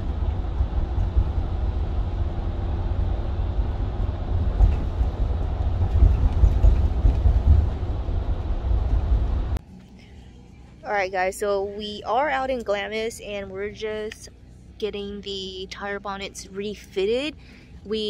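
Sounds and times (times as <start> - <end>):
vehicle road and wind noise: 0.0 - 18.0.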